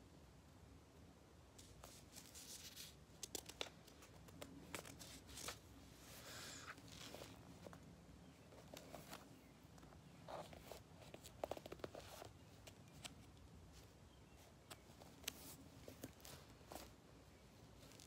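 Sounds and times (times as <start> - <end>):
paper pages rustling: 1.6 - 7.9, 8.5 - 17.0.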